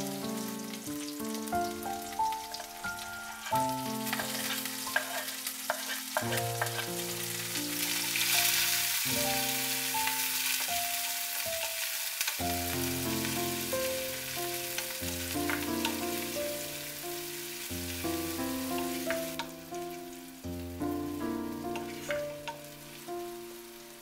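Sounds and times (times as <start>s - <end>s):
gentle background music: 0.0s - 24.0s
onions sizzling in oil: 0.0s - 24.0s.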